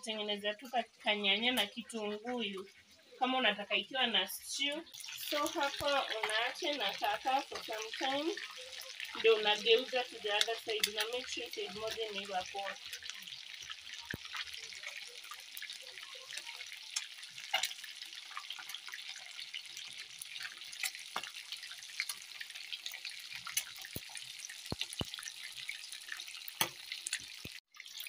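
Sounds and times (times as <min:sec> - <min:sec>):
fish deep-frying in oil: 0:04.6 - 0:28.0.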